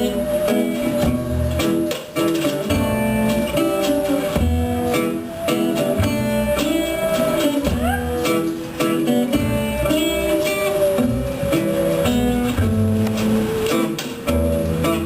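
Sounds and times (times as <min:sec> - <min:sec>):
held wavering melody: 0:00.0 - 0:15.0
strummed and plucked strings: 0:00.0 - 0:15.0.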